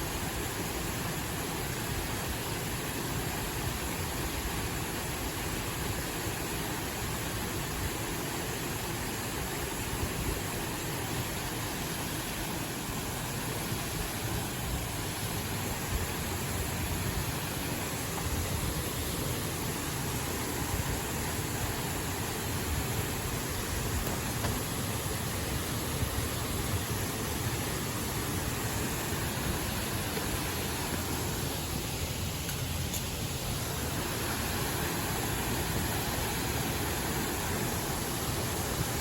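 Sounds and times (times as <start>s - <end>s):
rushing stream water: 0.0s - 39.0s.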